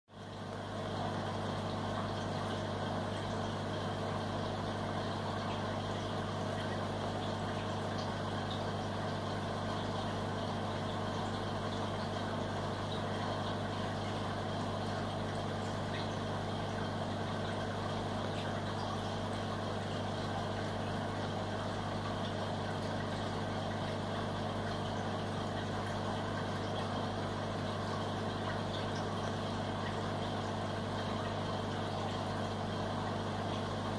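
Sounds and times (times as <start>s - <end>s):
aquarium pump humming: 0.1s - 33.9s.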